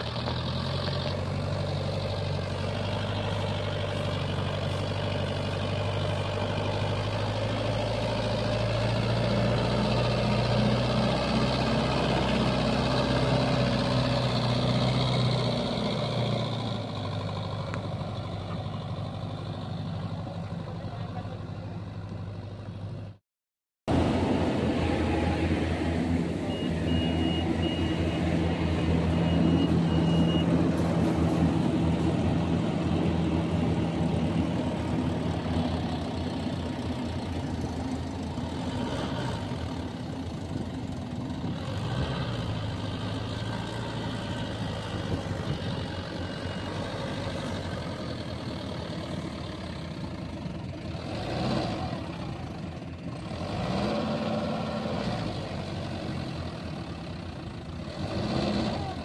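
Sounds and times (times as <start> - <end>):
tractor diesel engine under load: 0.0 - 23.2, 23.9 - 59.0.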